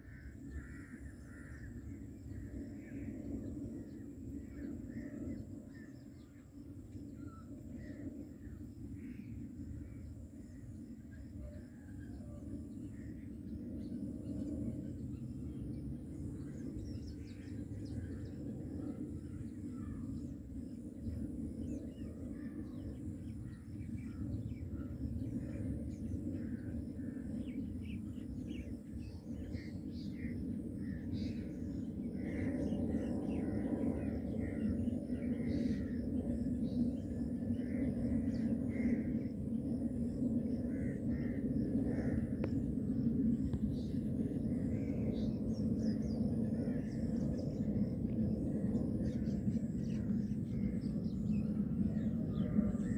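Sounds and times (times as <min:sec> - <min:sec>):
distant jet airliner rumble: 0:00.0 - 0:52.9.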